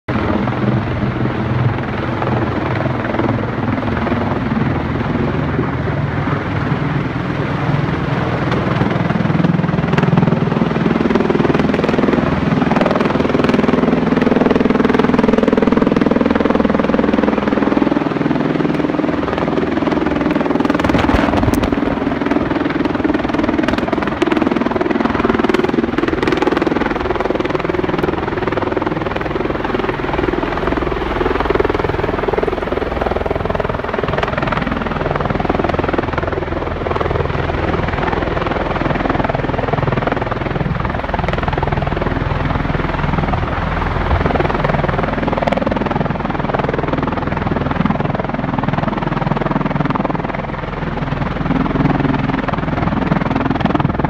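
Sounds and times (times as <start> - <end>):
aircraft rotor drone overhead: 0.1 - 54.0.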